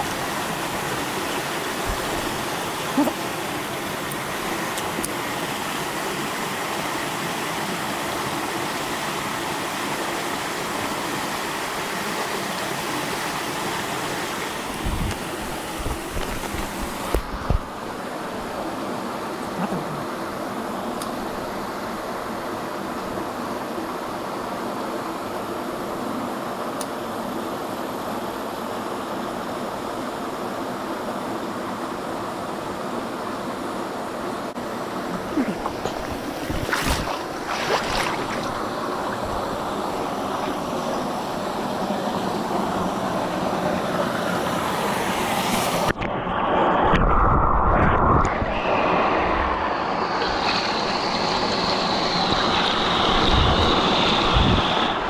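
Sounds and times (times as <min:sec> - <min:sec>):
stream water rushing: 0:00.0 - 0:25.9, 0:27.7 - 0:46.0, 0:48.7 - 0:55.0.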